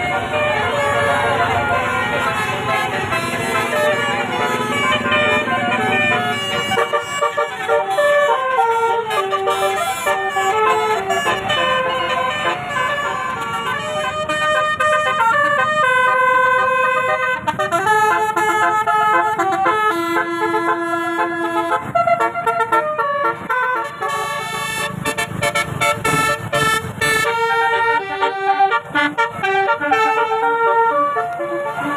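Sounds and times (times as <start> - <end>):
bus musical horn playing tune: 0.0 - 31.9.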